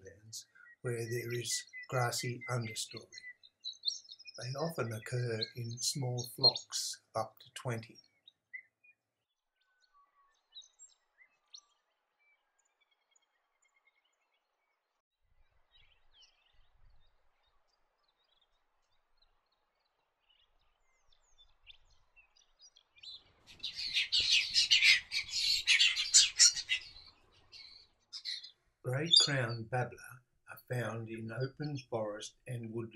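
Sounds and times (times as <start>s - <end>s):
birds twittering rapidly: 0.0s - 32.9s
faint high bird chirps: 0.0s - 32.9s.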